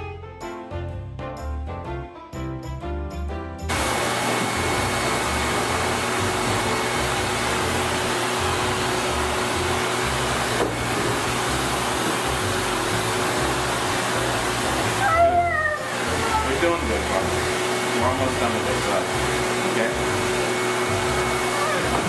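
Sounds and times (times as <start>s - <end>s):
dryer blowing air: 3.7s - 22.0s.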